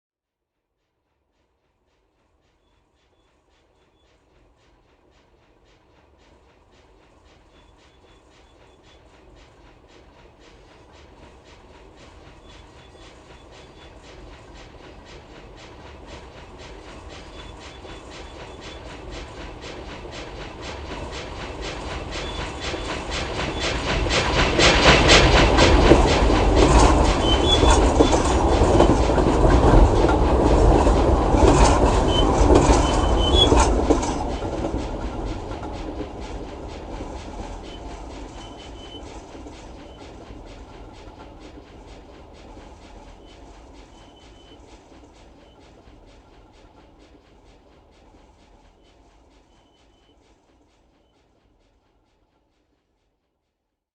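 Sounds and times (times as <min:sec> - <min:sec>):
train wheels clattering on rails: 0:02.6 - 0:51.2.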